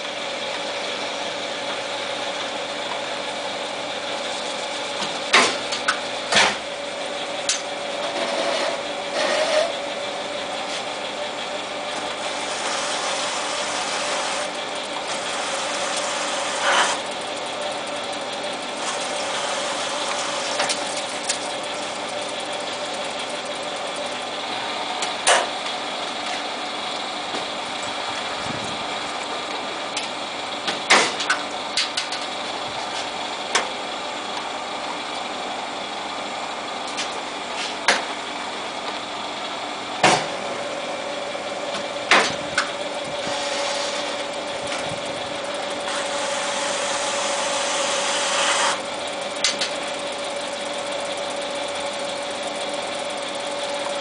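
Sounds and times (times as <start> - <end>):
lathe humming and whining: 0.0 - 54.0.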